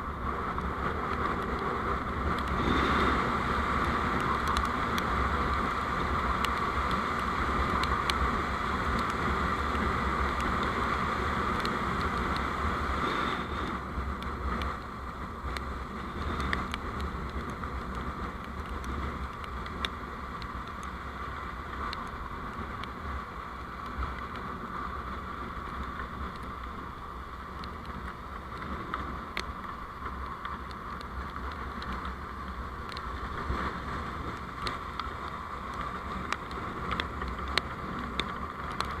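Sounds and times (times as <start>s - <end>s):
vehicle driving noise: 0.0s - 39.0s.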